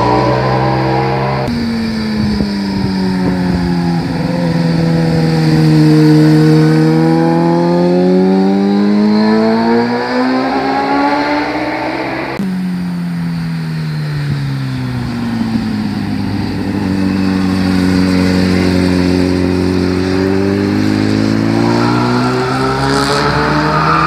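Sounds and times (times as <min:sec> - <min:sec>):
motorcycle engine slowing and accelerating: 0:00.0 - 0:24.0.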